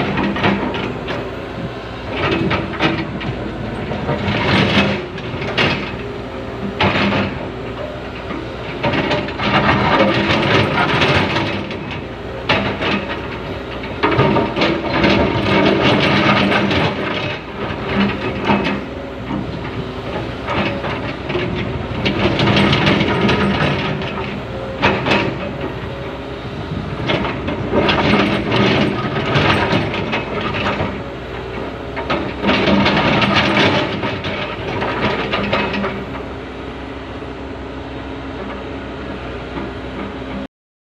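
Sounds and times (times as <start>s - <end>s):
diesel engine under load: 0.0s - 40.5s.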